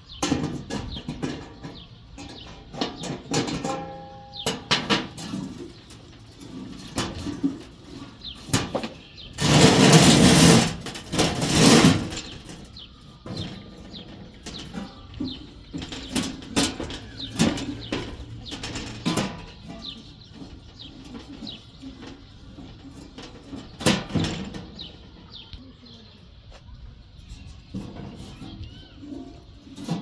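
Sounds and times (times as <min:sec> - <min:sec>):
faint birds chirping: 0:00.0 - 0:30.0
metal knocks and clanks: 0:00.1 - 0:25.4.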